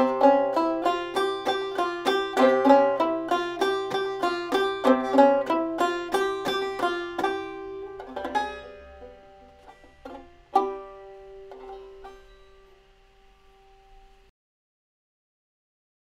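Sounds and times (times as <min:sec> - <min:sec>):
banjo plucked notes: 0:00.0 - 0:14.3.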